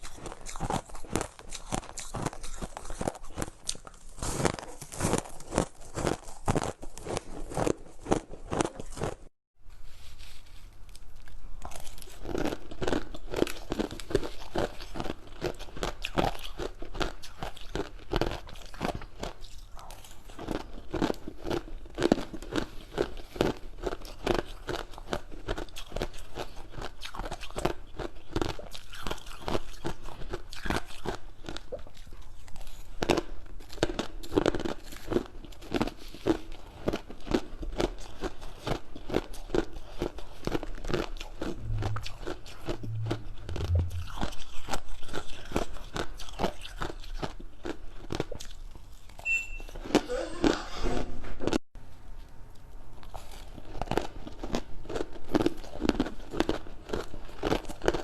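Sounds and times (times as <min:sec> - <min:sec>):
crunchy food chewing: 0:00.0 - 0:09.3, 0:10.3 - 0:50.6, 0:52.5 - 0:58.0.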